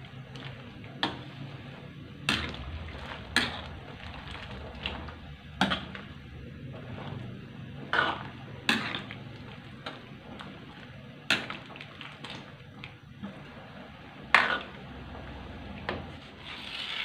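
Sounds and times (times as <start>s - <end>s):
ladle stirring soup: 0.0s - 17.0s
soup boiling: 0.0s - 17.0s.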